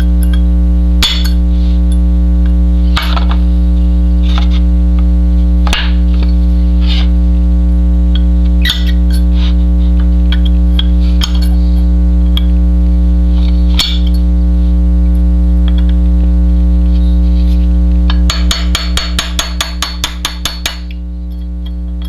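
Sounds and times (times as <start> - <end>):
mains hum: 0.0 - 22.0.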